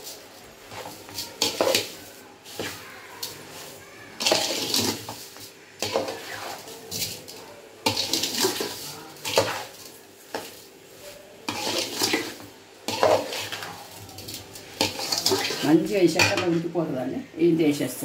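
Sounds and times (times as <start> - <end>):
metal spatula scraping metal pan: 0.7 - 10.6, 11.4 - 16.8.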